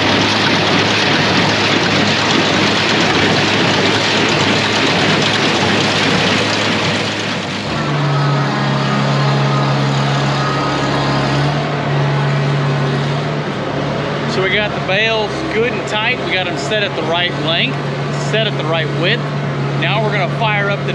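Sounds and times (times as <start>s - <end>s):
tractor with baler running: 0.0s - 20.9s.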